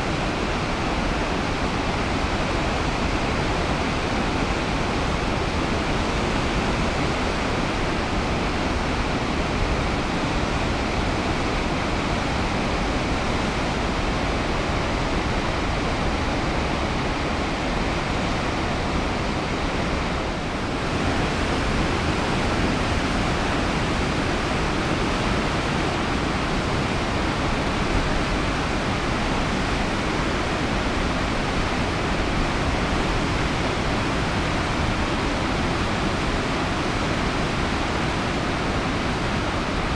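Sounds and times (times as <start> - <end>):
whitewater rushing over rocks: 0.0 - 39.9.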